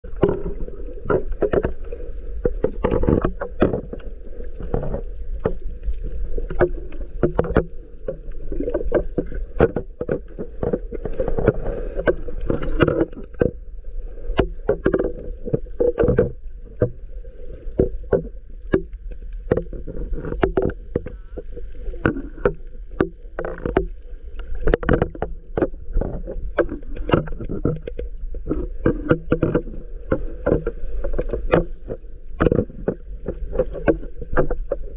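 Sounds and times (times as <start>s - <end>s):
underwater water sloshing: 0.0s - 34.9s
sharp clicks and crackles: 0.1s - 17.0s, 17.6s - 34.9s.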